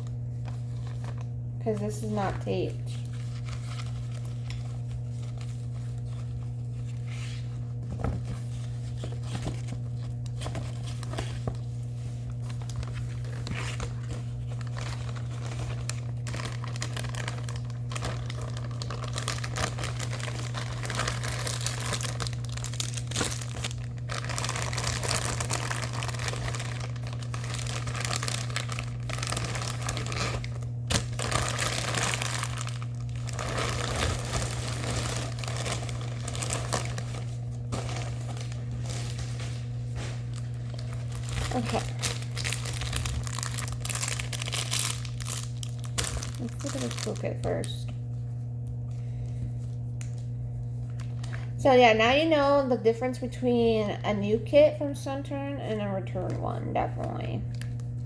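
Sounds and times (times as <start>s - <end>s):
plastic packaging crinkling: 0.0s - 47.9s, 50.0s - 51.5s
steady low hum: 0.0s - 58.0s.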